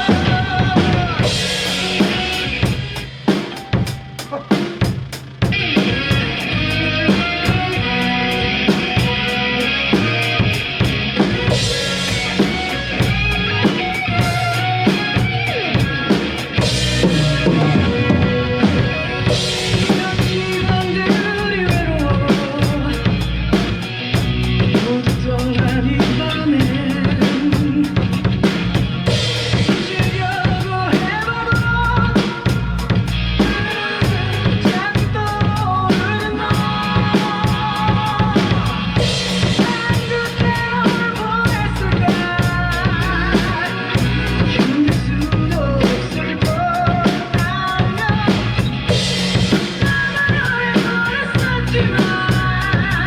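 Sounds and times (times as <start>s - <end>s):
drum kit playing: 0.0s - 53.0s
recorded band music: 0.0s - 53.0s.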